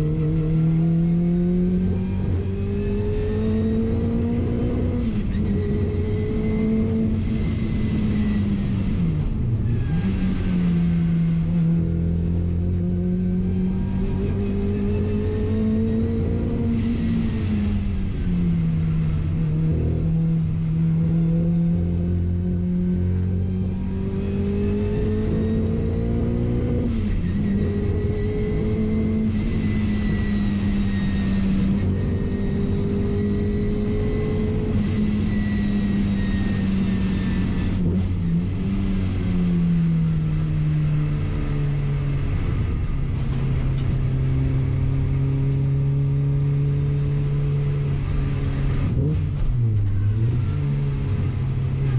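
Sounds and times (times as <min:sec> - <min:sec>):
car engine running under load: 0:00.0 - 0:51.9.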